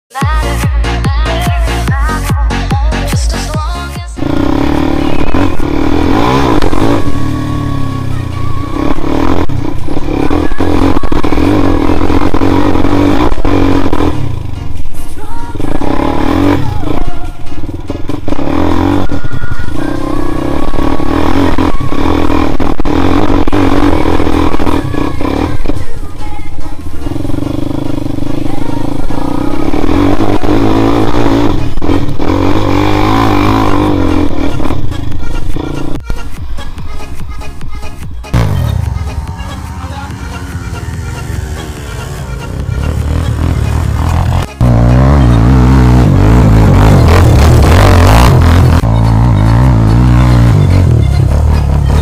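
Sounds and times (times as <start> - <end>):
loud background music: 0.1 - 52.0
quad bike engine revving: 0.2 - 37.2, 38.2 - 52.0.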